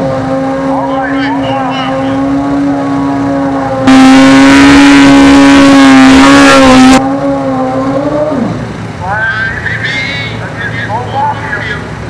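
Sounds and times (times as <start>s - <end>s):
loud burst of engine noise: 0.0s - 12.0s
motorcycle engines revving: 0.0s - 12.0s.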